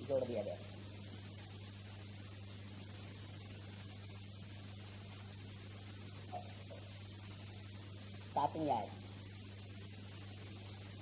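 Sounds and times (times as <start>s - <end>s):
constant hiss: 0.0s - 11.0s
electrical mains hum: 0.0s - 11.0s.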